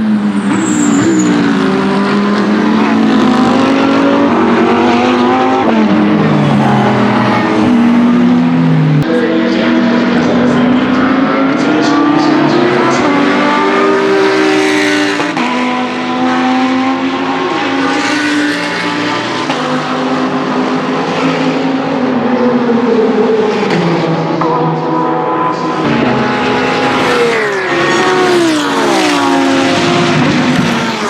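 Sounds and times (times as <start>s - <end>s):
race car engine at high revs: 0.0s - 31.0s.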